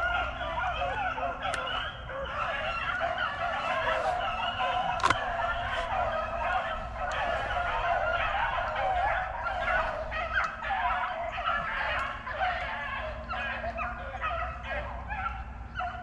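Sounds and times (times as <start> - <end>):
pack of dogs baying: 0.0 - 16.0.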